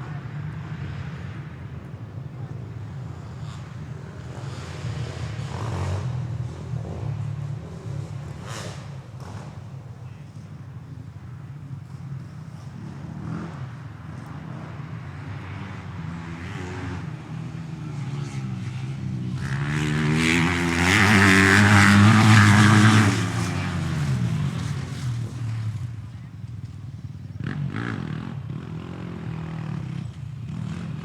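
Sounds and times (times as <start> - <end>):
motorcycle engine revving: 0.6 - 31.0.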